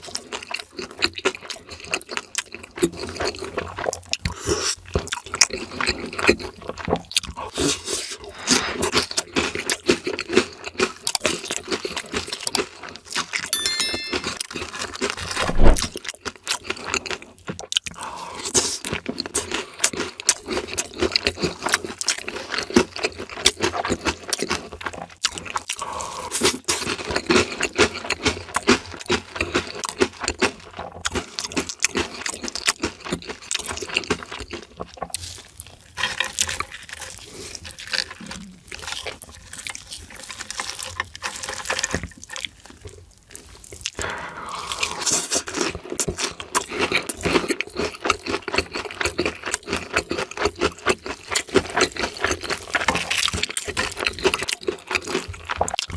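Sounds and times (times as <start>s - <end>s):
chewing and biting: 0.0s - 7.8s, 16.6s - 44.0s, 44.7s - 55.9s.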